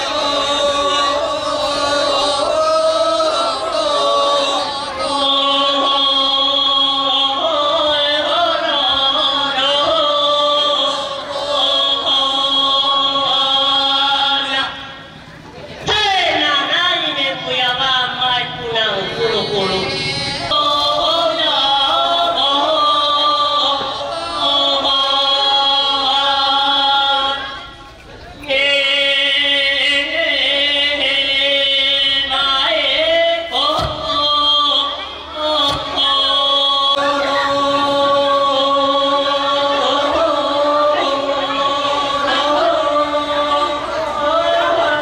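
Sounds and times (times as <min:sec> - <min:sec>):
voices singing a chant: 0:00.0 - 0:45.0.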